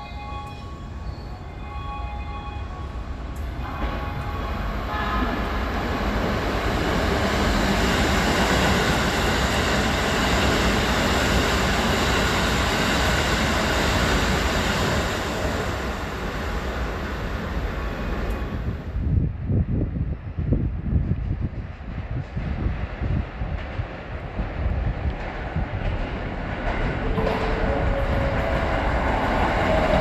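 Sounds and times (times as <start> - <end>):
electric train passing at speed: 0.0 - 30.0.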